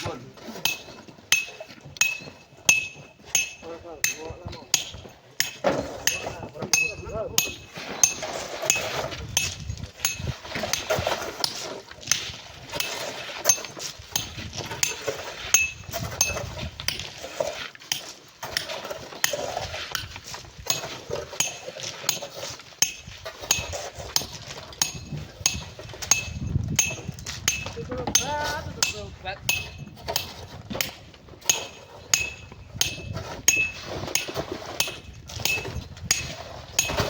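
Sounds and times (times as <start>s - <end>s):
metal tools striking rock: 0.0s - 17.2s, 17.8s - 37.0s.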